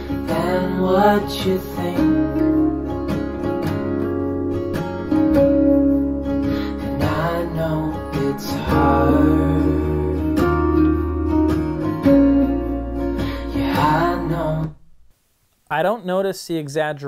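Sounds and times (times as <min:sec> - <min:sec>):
acoustic guitar song over loudspeakers: 0:00.0 - 0:14.8
bass notes: 0:00.0 - 0:15.1.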